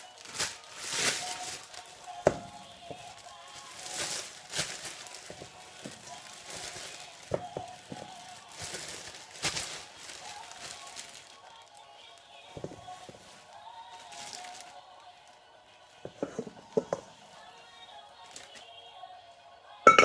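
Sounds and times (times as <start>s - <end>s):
plastic bag rustling and crinkling: 0.0s - 18.9s.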